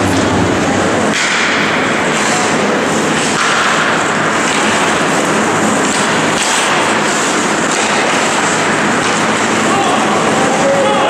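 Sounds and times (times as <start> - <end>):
ice rink noise: 0.0 - 11.0.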